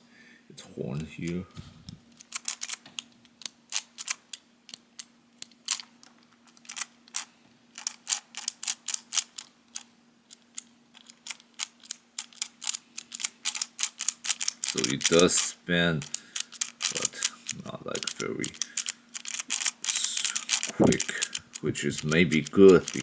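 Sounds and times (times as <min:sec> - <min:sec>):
sharp plastic clicks: 0:01.0 - 0:23.0.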